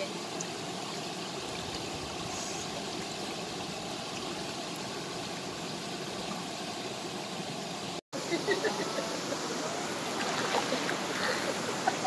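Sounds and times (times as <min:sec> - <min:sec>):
waterfall rushing: 0:01.6 - 0:12.0.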